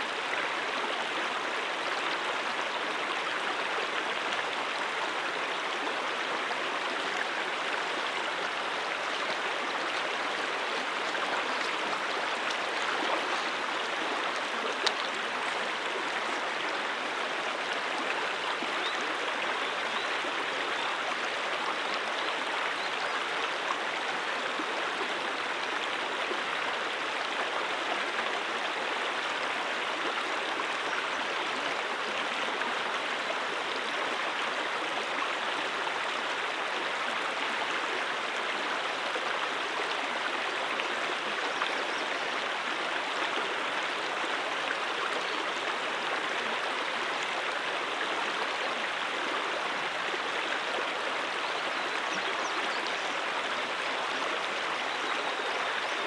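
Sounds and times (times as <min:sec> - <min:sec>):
brook water rushing over rocks: 0:00.0 - 0:56.0.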